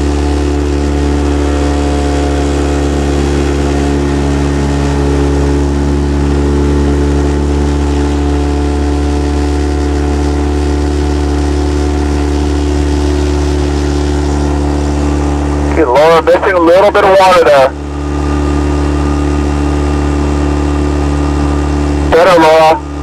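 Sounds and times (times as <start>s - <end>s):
outboard motor running steadily: 0.0s - 23.0s.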